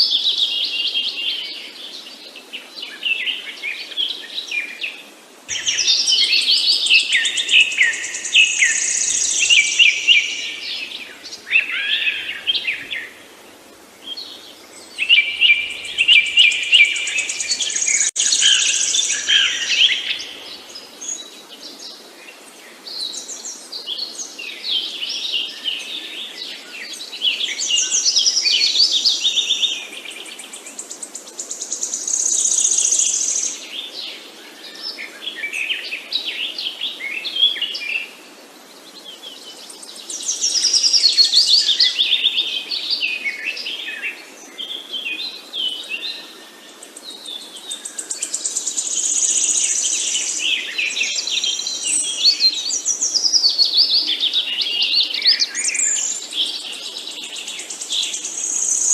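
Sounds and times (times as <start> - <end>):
faint background hiss: 0.0 - 58.9
songbirds chirping and trilling: 0.0 - 58.9.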